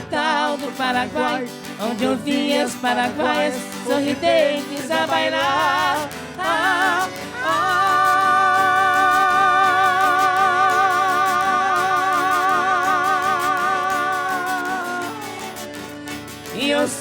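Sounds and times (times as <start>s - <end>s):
instrumental backing: 0.0s - 17.0s
person singing long high note: 0.0s - 17.0s.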